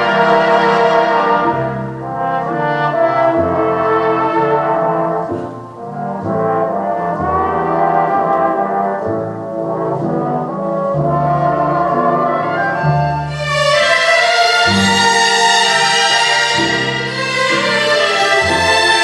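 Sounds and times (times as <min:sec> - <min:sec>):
jazz over loudspeakers: 0:00.0 - 0:19.0.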